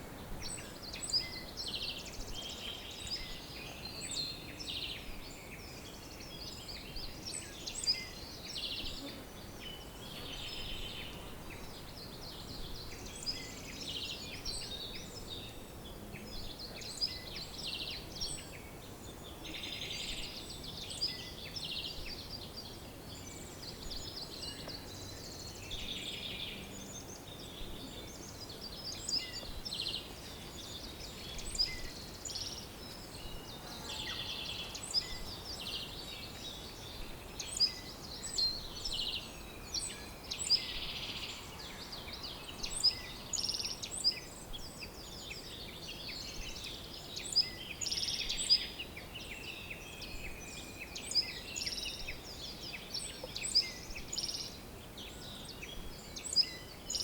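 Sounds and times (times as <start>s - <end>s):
birds singing: 0.0s - 57.0s
faint background hiss: 0.0s - 57.0s.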